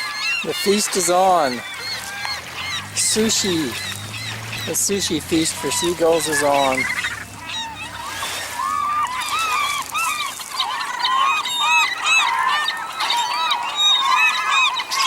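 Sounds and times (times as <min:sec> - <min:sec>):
gulls squawking: 0:00.0 - 0:15.0.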